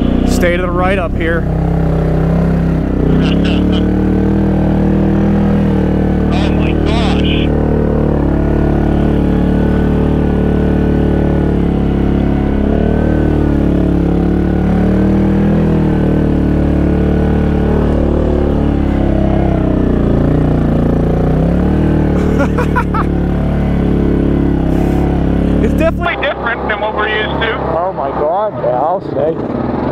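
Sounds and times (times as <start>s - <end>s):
quad bike engine running: 0.0s - 29.9s.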